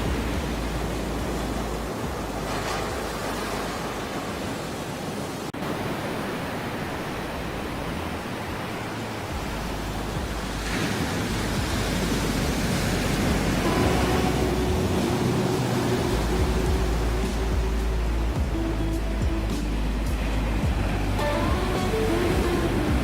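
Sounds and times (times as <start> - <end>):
ocean surf waves: 0.0 - 23.0.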